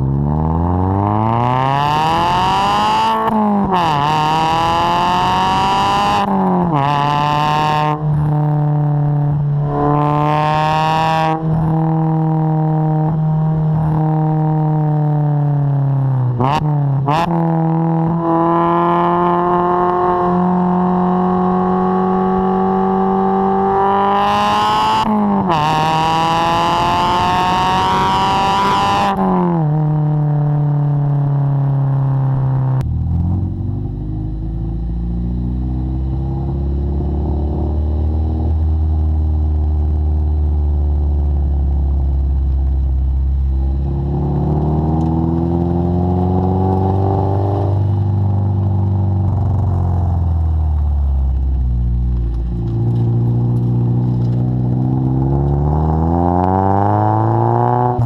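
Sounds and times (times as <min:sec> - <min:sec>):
car engine exhaust drone: 0:00.0 - 0:58.0.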